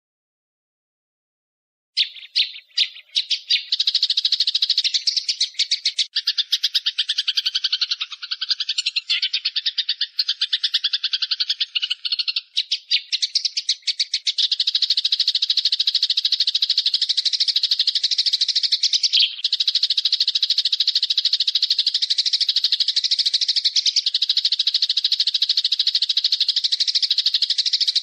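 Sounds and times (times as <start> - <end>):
songbirds chattering trill: 2.0 - 28.0.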